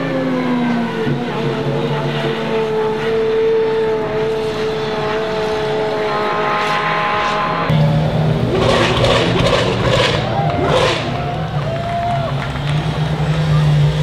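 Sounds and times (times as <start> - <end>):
racing engine running at high pitch: 0.0 - 11.7
supercar engine revving: 0.8 - 14.0.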